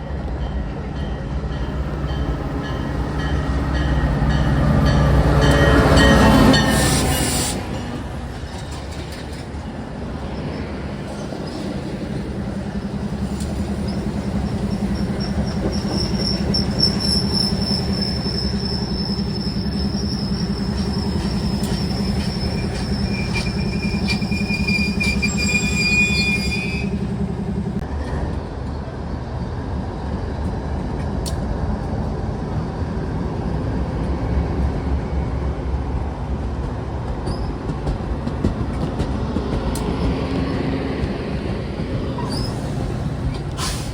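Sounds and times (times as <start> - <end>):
train rumble: 0.0 - 43.9
train wheels squealing on rails: 0.4 - 28.9, 37.1 - 43.9.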